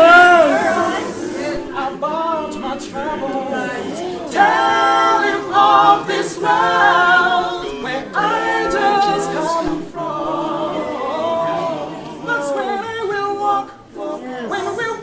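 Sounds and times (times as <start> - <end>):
group singing a cappella: 0.0 - 15.0.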